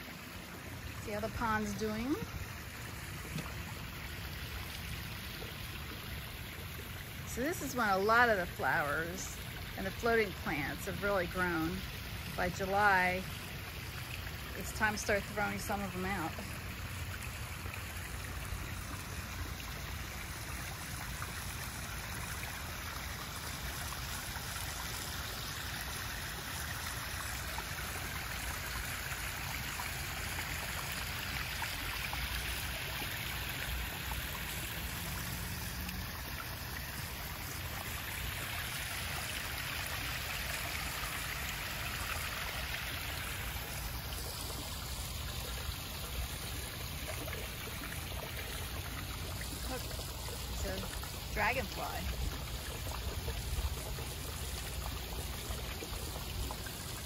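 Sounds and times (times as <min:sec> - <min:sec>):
waterfall splashing over stones: 0:00.0 - 0:57.0.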